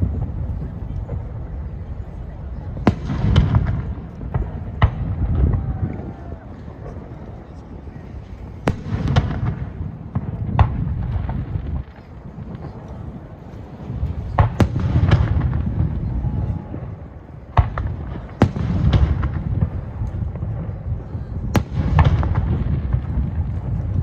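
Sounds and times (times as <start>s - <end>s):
fireworks bursting with bangs: 0.0s - 24.0s
rolling echo rumble: 0.0s - 24.0s.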